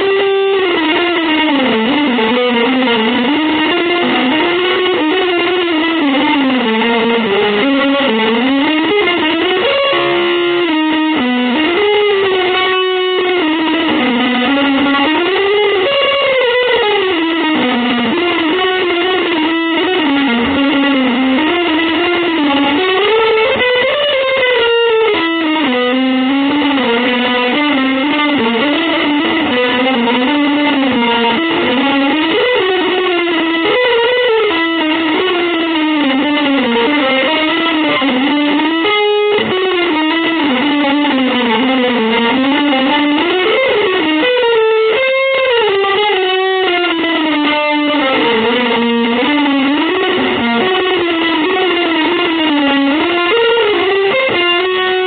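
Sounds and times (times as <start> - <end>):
electric guitar lead line: 0.0 - 55.0.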